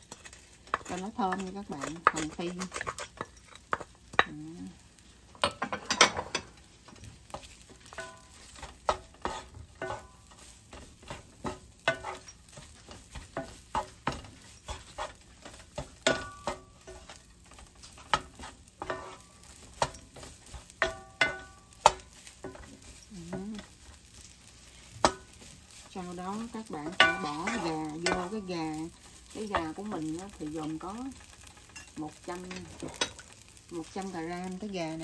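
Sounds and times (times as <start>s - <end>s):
spatula scraping and knocking pan: 0.0s - 4.4s, 5.3s - 35.0s
light sizzle: 0.0s - 35.0s.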